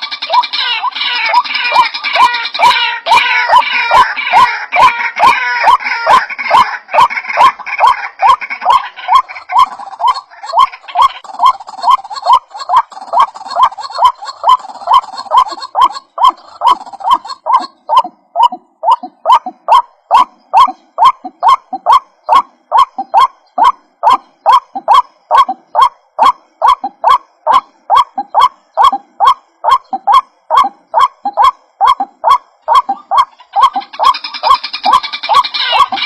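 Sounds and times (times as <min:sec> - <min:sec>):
waterhen croaking calls: 0:00.0 - 0:36.0.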